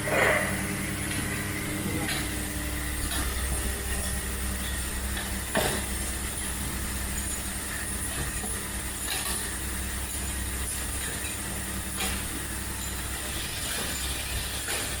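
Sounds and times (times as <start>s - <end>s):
machine humming and hissing: 0.0s - 15.0s.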